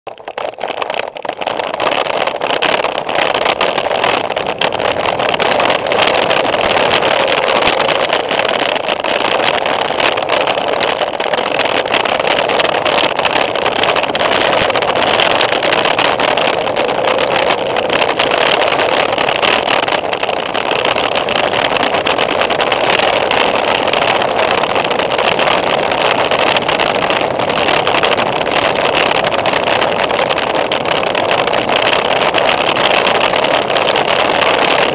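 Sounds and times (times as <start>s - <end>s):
wheels rattling over stones: 0.1s - 34.9s
wind and tyre noise: 0.1s - 34.9s.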